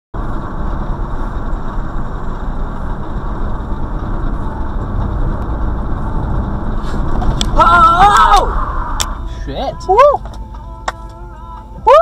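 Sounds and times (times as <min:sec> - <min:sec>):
car engine hum: 0:00.1 - 0:12.0
car road noise: 0:00.1 - 0:12.0.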